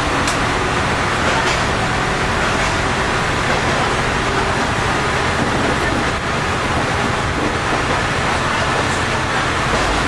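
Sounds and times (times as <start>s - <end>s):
diesel engine noise: 0.0s - 10.0s
wheels rumbling on rail: 0.0s - 10.0s.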